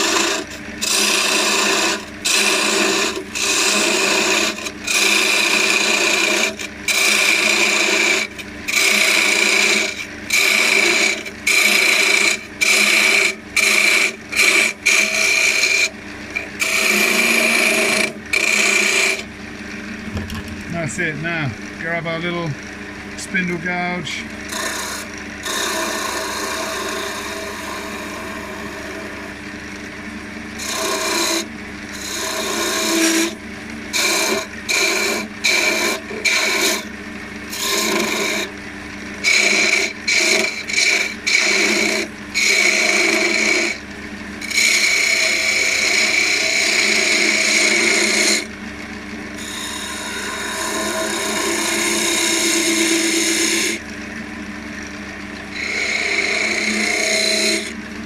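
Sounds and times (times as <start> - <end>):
gouge cutting spinning wood: 0.0 - 19.3, 23.2 - 29.7, 30.5 - 53.9, 55.1 - 58.0
wood lathe running: 0.0 - 54.0, 55.0 - 58.0.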